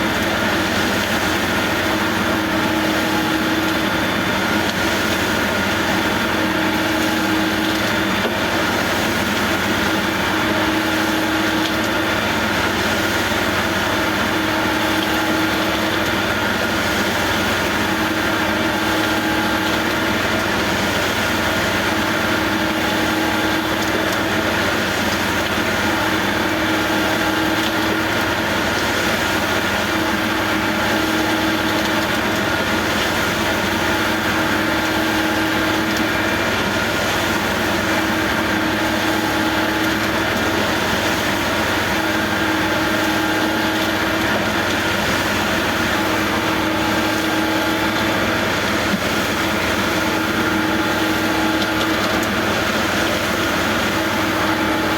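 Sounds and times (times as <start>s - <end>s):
construction machinery engine running: 0.0s - 54.9s.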